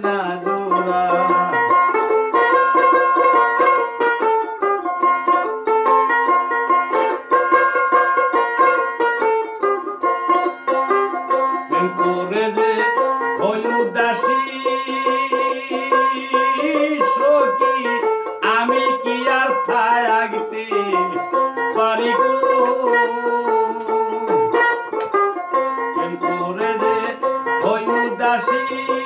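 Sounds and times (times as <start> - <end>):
man singing folk song: 0.0 - 9.1, 9.8 - 29.0
plucked string instrument: 0.0 - 29.0.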